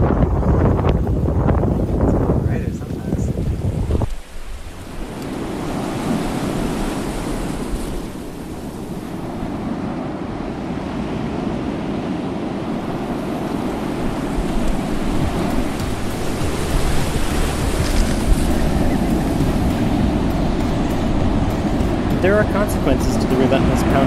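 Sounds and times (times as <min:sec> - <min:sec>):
wind buffeting microphone: 0:00.0 - 0:24.0
waves breaking: 0:00.9 - 0:24.0
water streaming past hull: 0:02.6 - 0:24.0.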